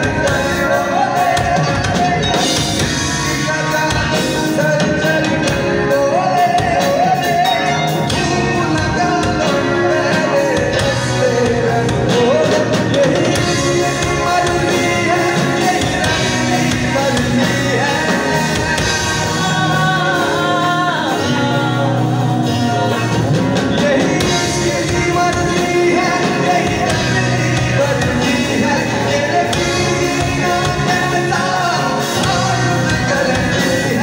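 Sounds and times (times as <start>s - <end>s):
live band playing: 0.0s - 34.0s
man singing lead: 0.0s - 34.0s.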